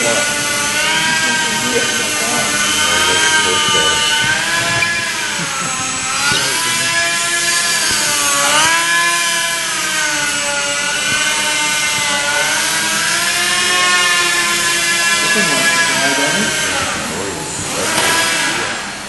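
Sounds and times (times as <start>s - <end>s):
model airplane motor whining: 0.0s - 19.0s.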